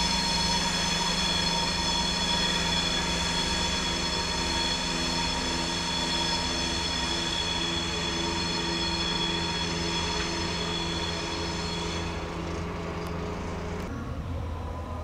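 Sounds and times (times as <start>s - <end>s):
high-pitched whine: 0.0s - 15.0s
locomotive low hum: 0.0s - 15.0s.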